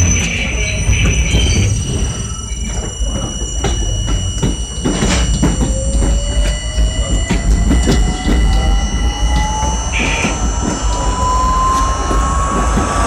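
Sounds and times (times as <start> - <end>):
faint rising tone: 0.0 - 13.0
high whining tones: 0.0 - 13.0
subway car rumble: 0.0 - 13.0.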